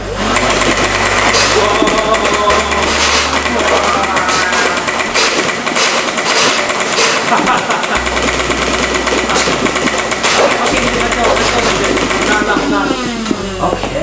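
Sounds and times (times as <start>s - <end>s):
toy blaster motors spinning: 0.0s - 13.2s
foam balls firing rapidly: 0.1s - 13.4s.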